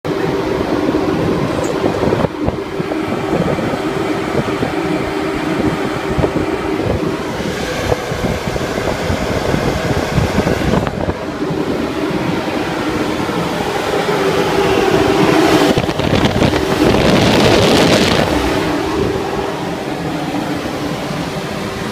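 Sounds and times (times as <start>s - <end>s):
air conditioner units humming: 0.1s - 21.9s
wind buffeting microphone: 0.1s - 21.9s.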